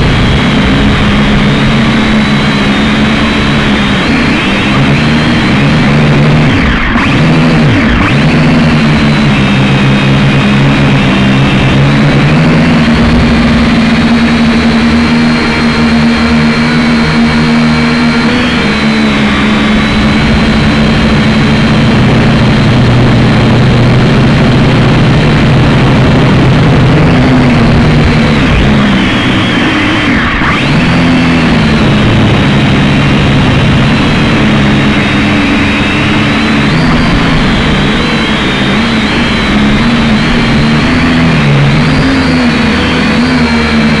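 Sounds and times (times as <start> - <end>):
drone propellers buzzing: 0.0 - 44.0.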